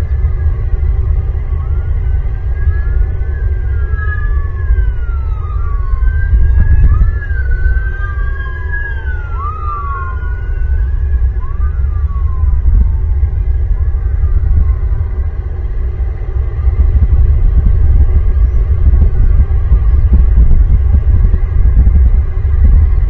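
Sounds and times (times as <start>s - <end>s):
emergency vehicle sirens wailing: 0.0s - 23.0s
loud steady low rumble: 0.0s - 23.0s.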